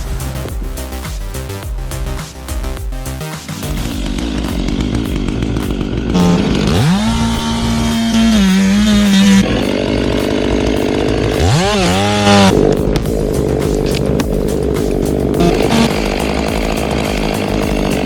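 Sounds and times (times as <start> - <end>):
steady low drone: 0.0 - 18.0
chainsaw revving: 3.4 - 18.0.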